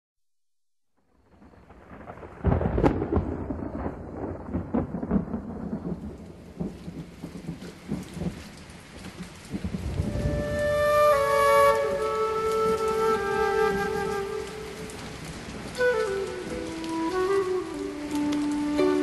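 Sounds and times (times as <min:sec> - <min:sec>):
steady rain: 0:01.0 - 0:19.0
thunder rumbling: 0:01.1 - 0:19.0
thunderclap: 0:01.1 - 0:19.0.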